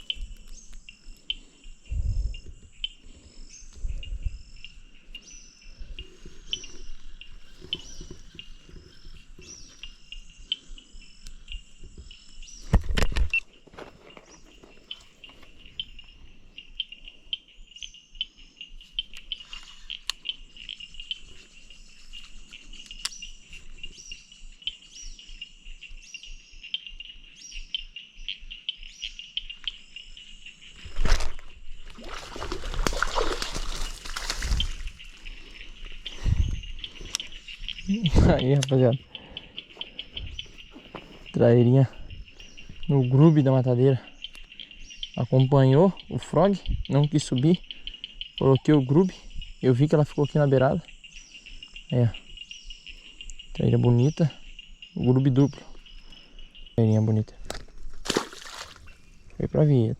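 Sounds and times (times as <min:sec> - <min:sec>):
birds chirping: 0:00.0 - 0:59.9
insect trill: 0:00.0 - 0:59.9.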